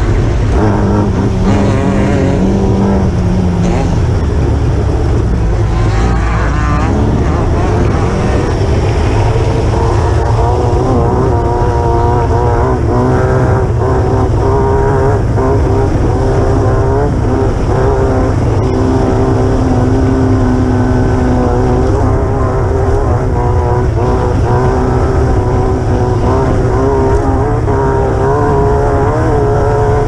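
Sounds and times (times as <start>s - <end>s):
buggy engine revving: 0.0s - 30.0s
chassis and road rumble: 0.0s - 30.0s.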